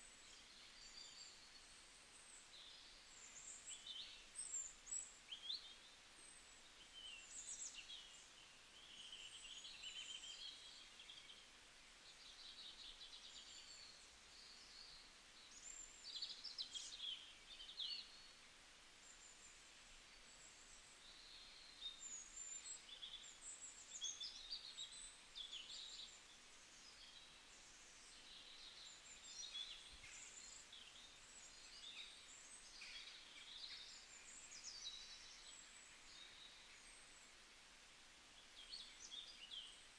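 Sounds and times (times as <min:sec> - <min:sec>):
low steady hiss: 0:00.0 - 0:39.9
small birds chirping: 0:00.0 - 0:39.9.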